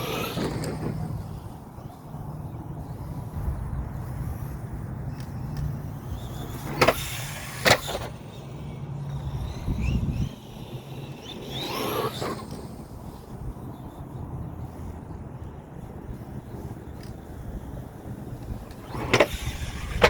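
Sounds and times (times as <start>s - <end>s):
faint motor whines: 0.0s - 20.0s
rc truck running: 0.0s - 20.0s.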